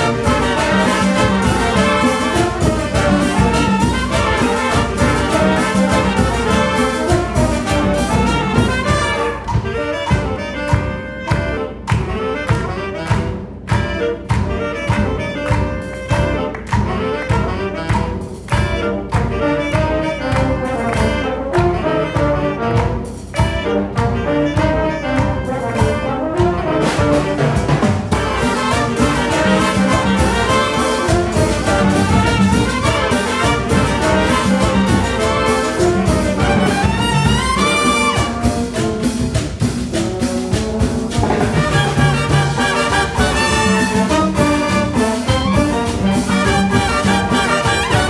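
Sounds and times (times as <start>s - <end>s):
congas: 0.0s - 48.0s
wind band playing: 0.0s - 48.0s.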